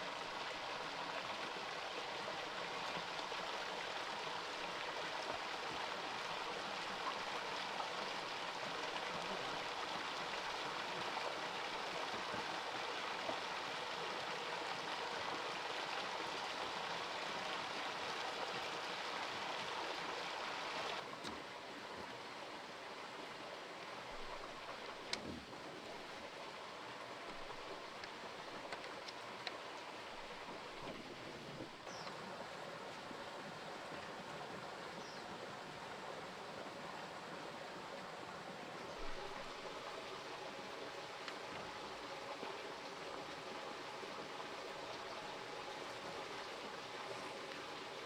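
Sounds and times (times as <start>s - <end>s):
stream water rushing: 0.0s - 48.0s.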